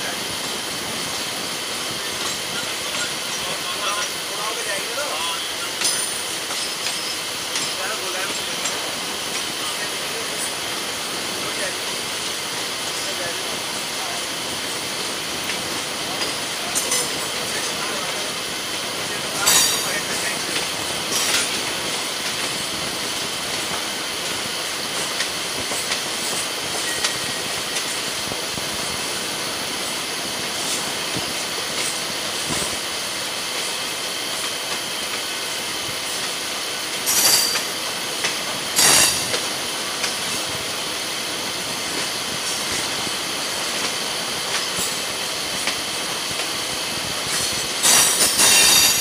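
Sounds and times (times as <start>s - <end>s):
train wheels on rails: 0.0s - 49.0s.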